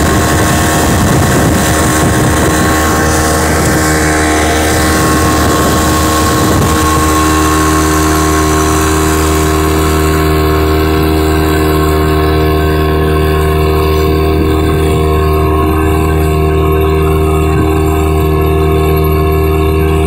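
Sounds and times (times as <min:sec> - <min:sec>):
outboard motor running: 0:00.0 - 0:20.0
water rushing along hull: 0:00.0 - 0:20.0.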